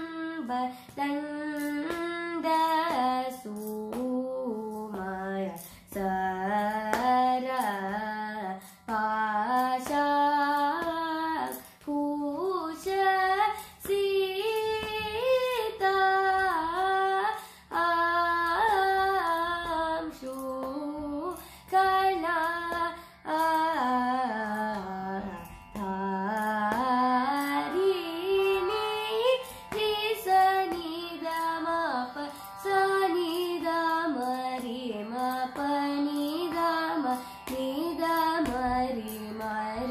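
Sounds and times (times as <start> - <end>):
girl singing: 0.0 - 39.9.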